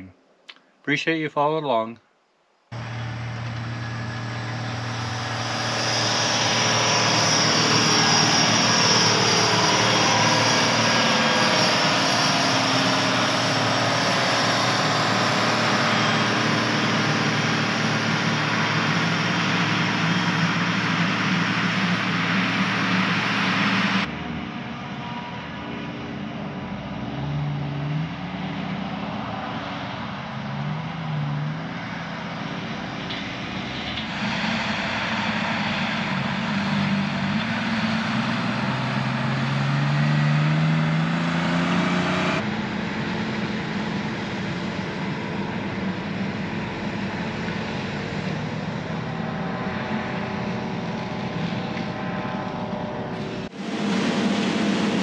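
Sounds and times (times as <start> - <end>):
rattle and road noise: 2.7 - 25.1, 25.9 - 55.0
diesel truck engine accelerating: 2.7 - 55.0.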